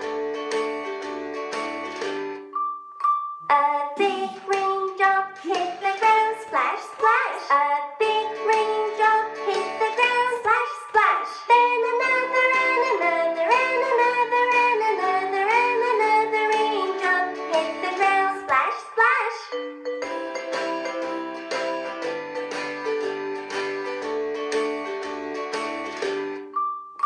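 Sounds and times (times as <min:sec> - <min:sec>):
instrumental accompaniment: 0:00.0 - 0:18.6, 0:19.5 - 0:27.0
children's song singing: 0:03.4 - 0:26.3.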